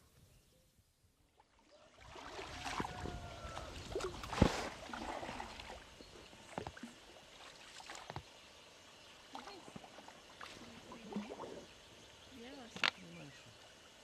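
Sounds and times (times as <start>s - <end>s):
paddles splashing water: 1.3s - 14.0s.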